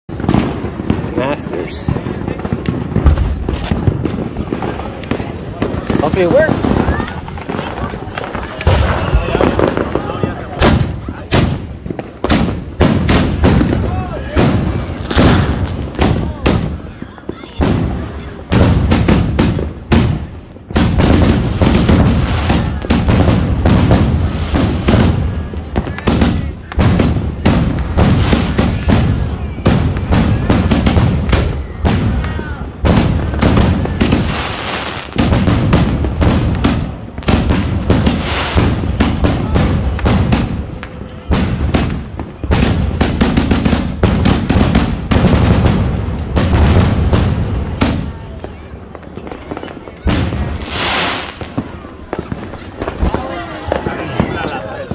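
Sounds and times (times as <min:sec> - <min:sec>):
firework bursting bangs: 0:00.1 - 0:54.9.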